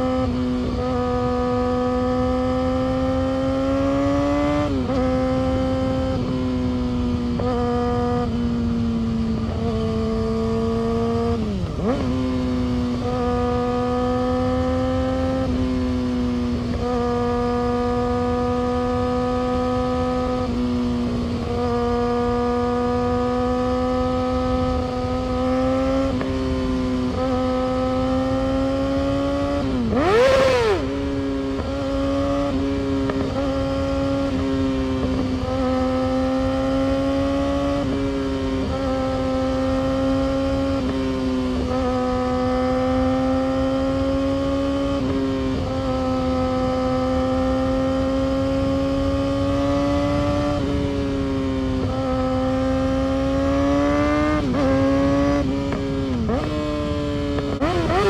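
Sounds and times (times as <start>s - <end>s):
sport bike engine at high revs: 0.0s - 58.0s.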